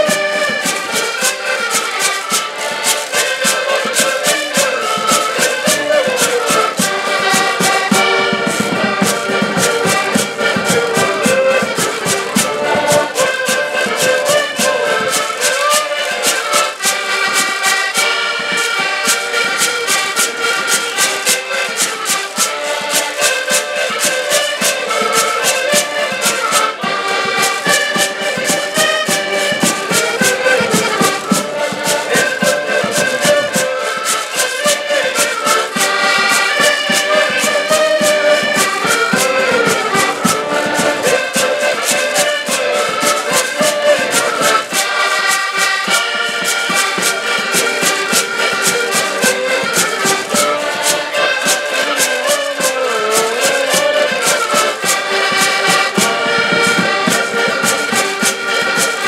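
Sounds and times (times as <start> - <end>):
accordions playing chords: 0.0 - 59.0
hand percussion: 0.0 - 59.0
strummed string instrument: 0.0 - 59.0.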